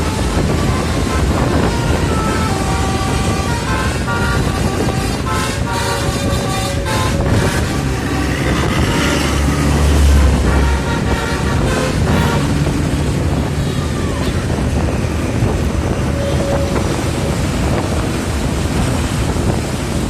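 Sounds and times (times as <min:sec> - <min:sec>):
road traffic rumble: 0:00.0 - 0:20.0
wind buffeting microphone: 0:00.0 - 0:20.0.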